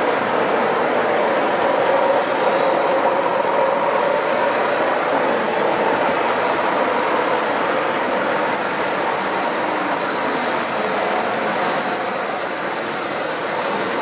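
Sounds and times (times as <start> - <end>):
model train wagons rattling: 0.0 - 14.0.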